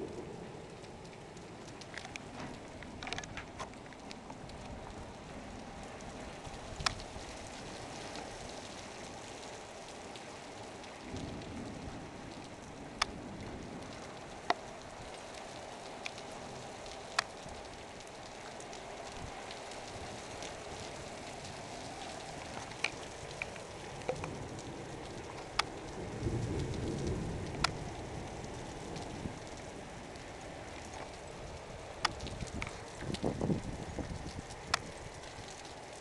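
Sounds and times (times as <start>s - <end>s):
thunder rumble: 0.0s - 18.4s, 19.0s - 36.0s
heavy rain on rooftop: 0.0s - 36.0s
raindrop ticks: 0.0s - 36.0s.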